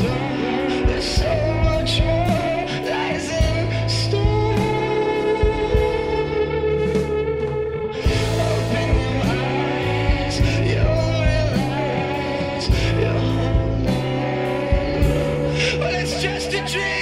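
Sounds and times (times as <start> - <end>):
garage rock music: 0.0 - 17.0
person singing: 0.0 - 17.0.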